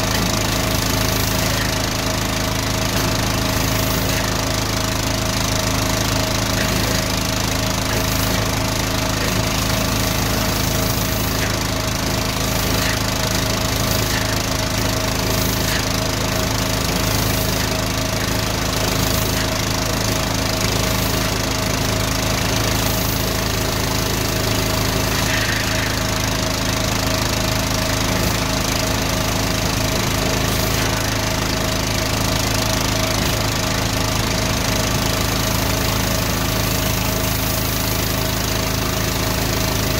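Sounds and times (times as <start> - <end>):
engine and pump running: 0.0 - 39.9.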